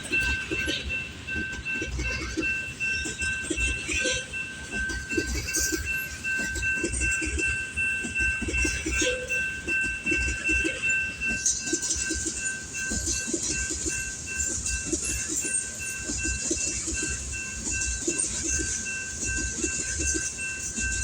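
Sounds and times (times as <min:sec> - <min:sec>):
high-pitched ringing tone: 0:00.0 - 0:21.0.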